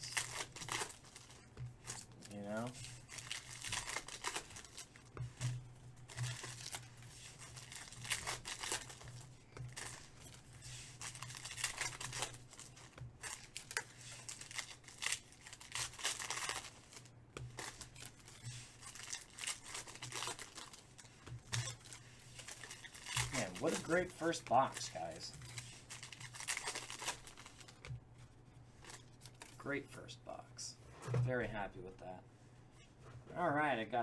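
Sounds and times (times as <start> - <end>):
foil wrappers crinkling and tearing: 0.0 - 27.9.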